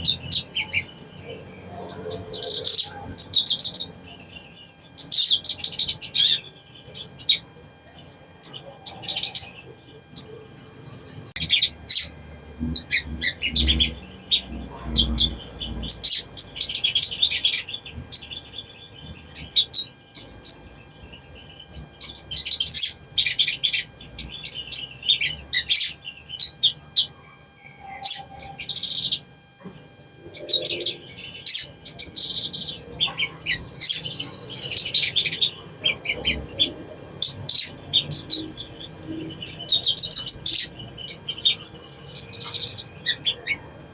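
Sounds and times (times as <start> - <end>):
songbird twittering chirps: 0.0 - 43.9.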